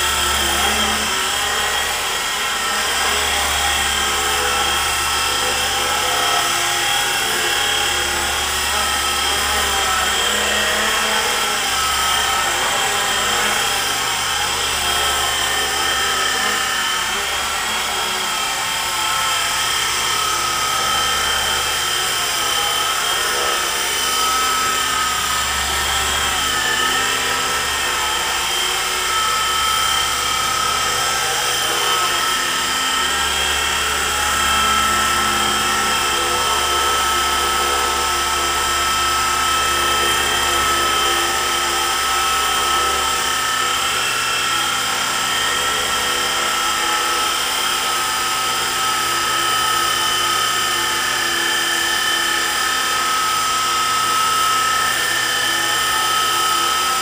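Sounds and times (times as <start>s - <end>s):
low rotor hum: 0.0s - 57.0s
rc helicopter motor whine: 0.0s - 57.0s.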